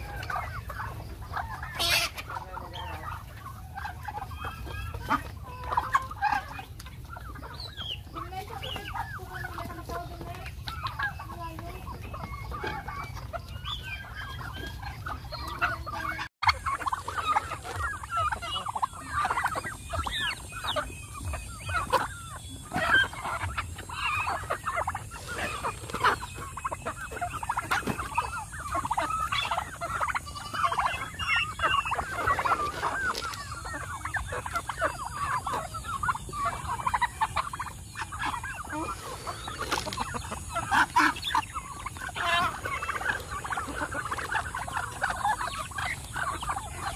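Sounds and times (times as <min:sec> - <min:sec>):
turkeys and chickens clucking: 0:00.0 - 0:46.9.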